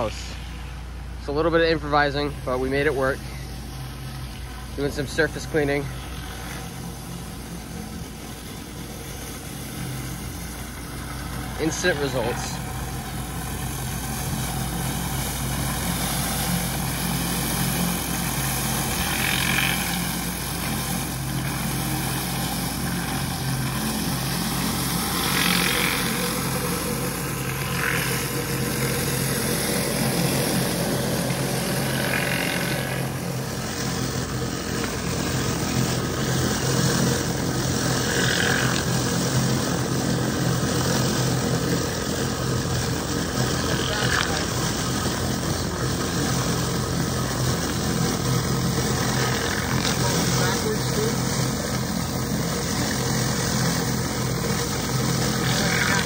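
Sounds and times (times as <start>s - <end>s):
pressure washer engine hum: 0.0s - 56.0s
spray hissing on concrete: 2.2s - 56.0s.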